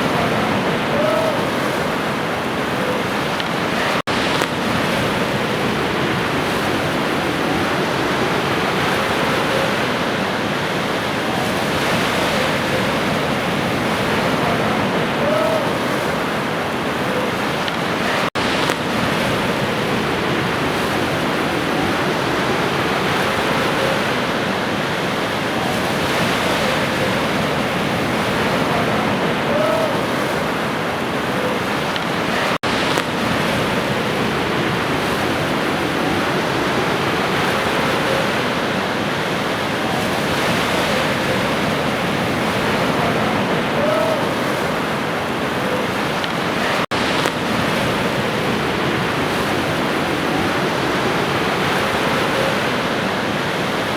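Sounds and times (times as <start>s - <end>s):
sea waves washing ashore: 0.0s - 53.9s.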